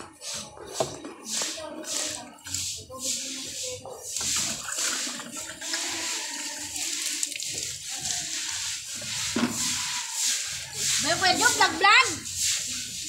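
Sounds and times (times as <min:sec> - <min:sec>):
water splashing on concrete floor: 0:00.7 - 0:13.0.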